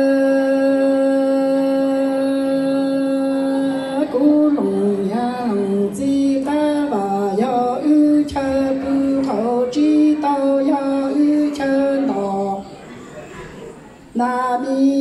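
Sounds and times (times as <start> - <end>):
woman singing into microphone: 0.0 - 12.8, 14.1 - 15.0.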